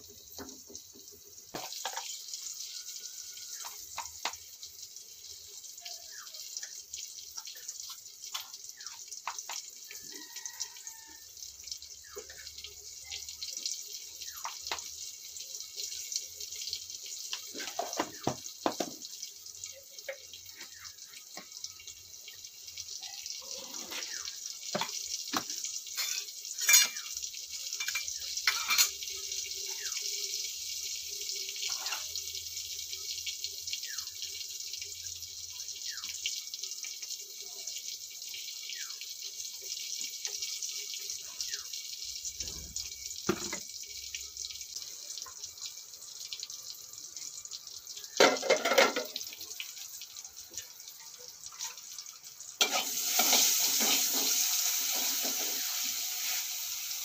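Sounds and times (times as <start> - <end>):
water pouring into steel container: 1.5 - 57.0.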